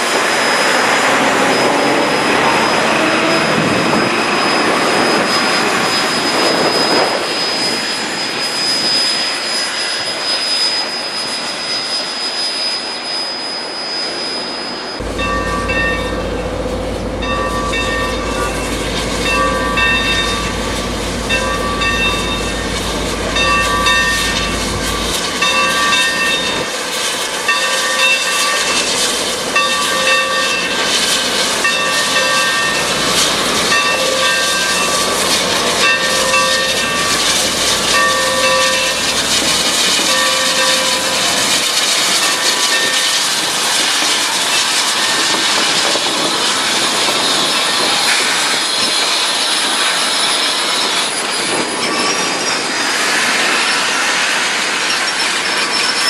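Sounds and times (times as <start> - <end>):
locomotive bell ringing: 0.0 - 9.2, 14.7 - 46.3, 46.9 - 56.0
steam hissing: 0.0 - 56.0.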